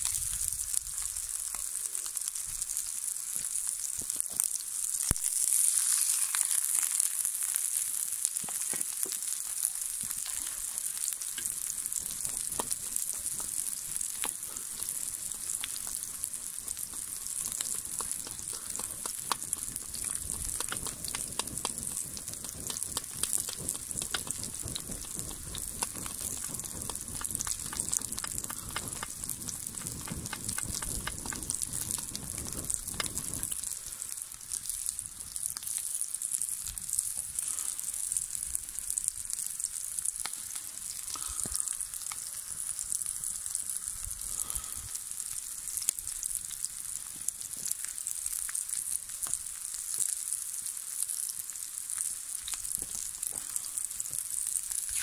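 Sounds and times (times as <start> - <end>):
burning wood crackling: 0.0 - 55.0
oil sizzling in a skillet: 0.0 - 55.0.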